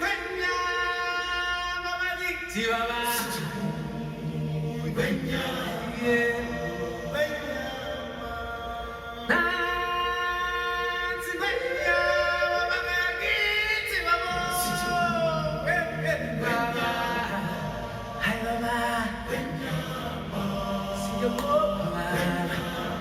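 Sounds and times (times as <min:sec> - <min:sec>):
choir-like wordless singing: 0:00.0 - 0:23.0.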